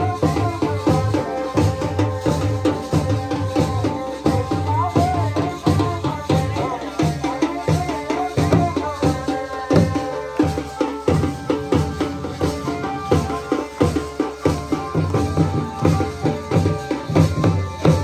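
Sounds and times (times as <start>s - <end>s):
dhol drum beating: 0.0s - 18.0s.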